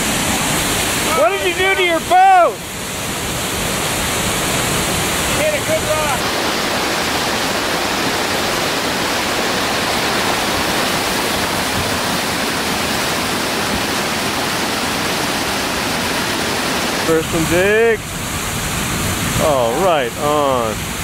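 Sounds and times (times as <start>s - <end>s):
whitewater rushing through rapids: 0.0s - 21.0s.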